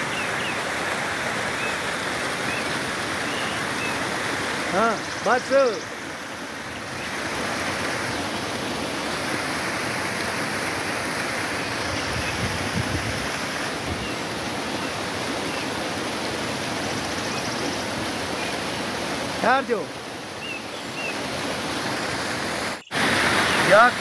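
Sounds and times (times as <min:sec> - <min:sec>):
stream cascading over rocks: 0:00.0 - 0:24.0.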